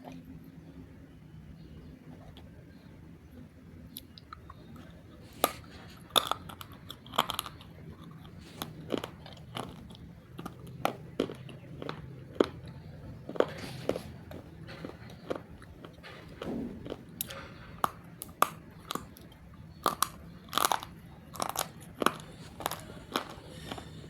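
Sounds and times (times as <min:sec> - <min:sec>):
dry crunchy chewing: 0:03.9 - 0:24.0.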